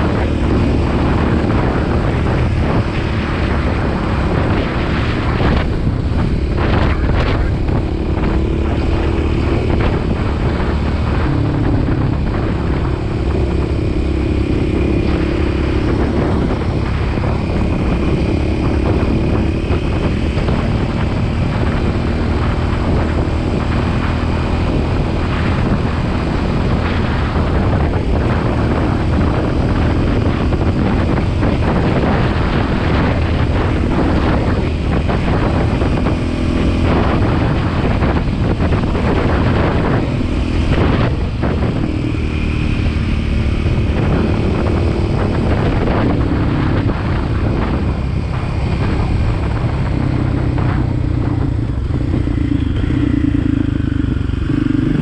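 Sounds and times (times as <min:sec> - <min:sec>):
motorcycle engine cruising: 0:00.0 - 0:55.0
wind buffeting microphone: 0:00.0 - 0:55.0.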